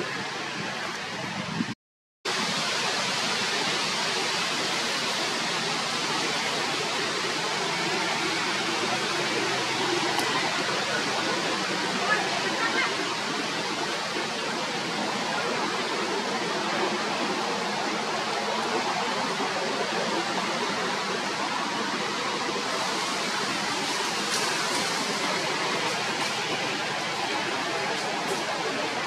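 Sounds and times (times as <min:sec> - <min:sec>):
steady rushing hiss: 0:02.3 - 0:29.0.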